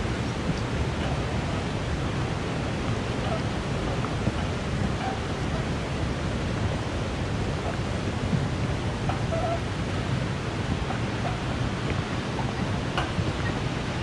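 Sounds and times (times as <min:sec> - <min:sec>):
creek rapids roaring: 0:00.0 - 0:14.0.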